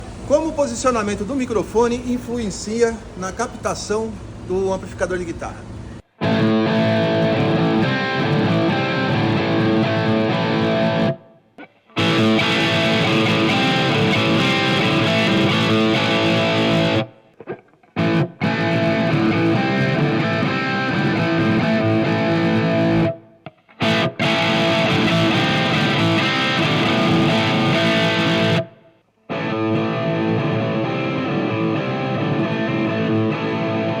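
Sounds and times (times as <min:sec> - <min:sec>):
distorted electric guitar riff: 0:06.1 - 0:34.0.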